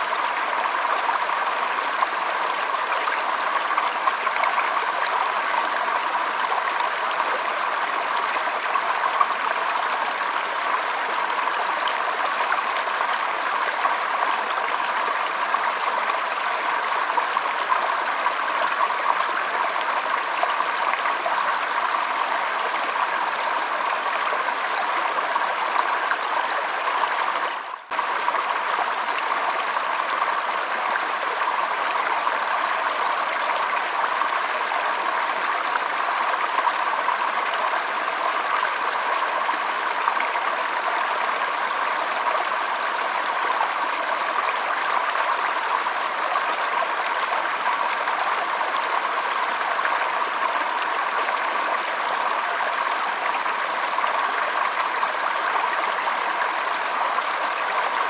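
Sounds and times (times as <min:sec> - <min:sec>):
stream flowing and trickling: 0:00.0 - 0:58.0.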